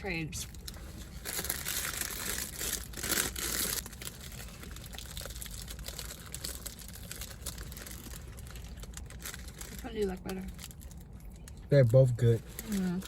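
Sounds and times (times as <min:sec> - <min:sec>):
pastry bag crinkling: 0:00.5 - 0:13.0.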